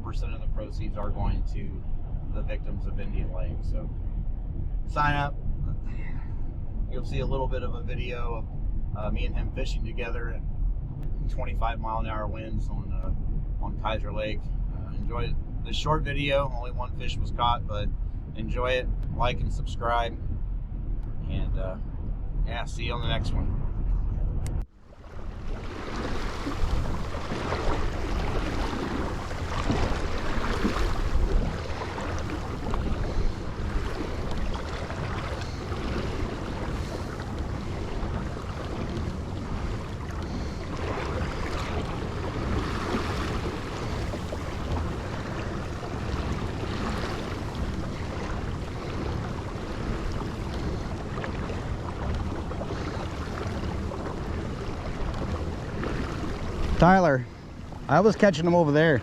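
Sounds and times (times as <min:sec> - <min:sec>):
choppy water splashing: 0:00.0 - 0:59.0
wind buffeting microphone: 0:00.0 - 0:59.0.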